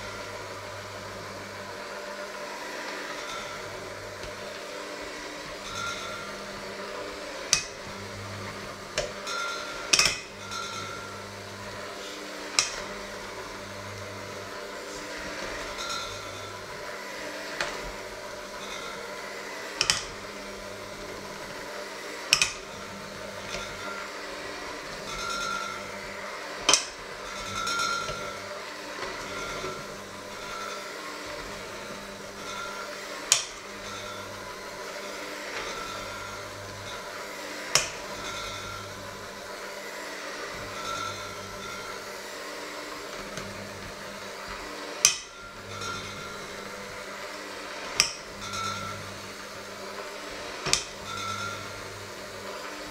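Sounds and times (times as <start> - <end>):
electric hand mixer running: 0.0 - 52.9.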